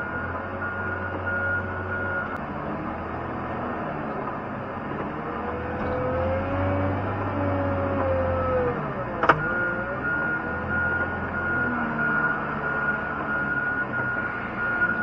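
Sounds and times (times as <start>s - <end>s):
wheel loader engine under load: 0.0s - 15.0s.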